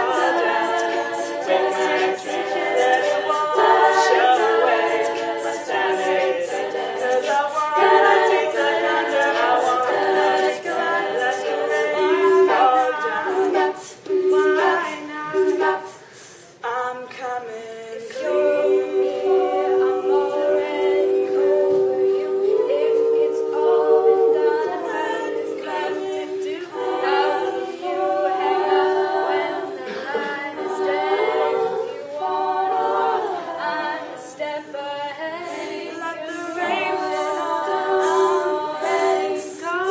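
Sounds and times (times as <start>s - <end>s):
female voices singing in harmony: 0.0s - 39.9s.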